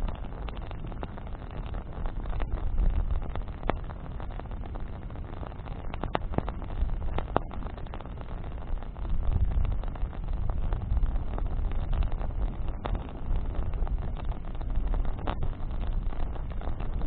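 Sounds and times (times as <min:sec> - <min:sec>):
campfire low rumble: 0:00.0 - 0:17.0
fire crackles and pops: 0:00.0 - 0:17.0
wind buffeting microphone: 0:00.0 - 0:17.0.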